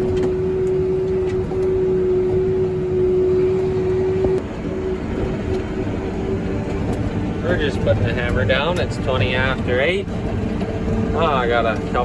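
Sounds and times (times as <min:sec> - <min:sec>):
loud steady whine: 0:00.0 - 0:12.0
tractor engine drone: 0:00.0 - 0:12.0.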